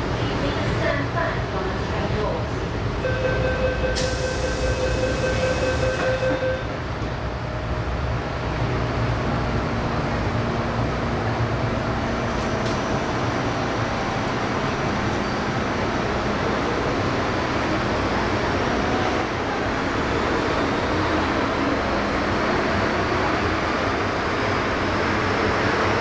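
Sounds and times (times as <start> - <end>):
rumble of train wheels: 0.0 - 26.0.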